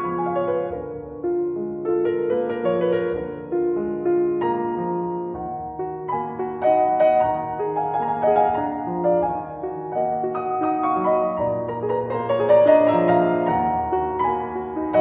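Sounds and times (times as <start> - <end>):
piano melody over chords: 0.0 - 15.0.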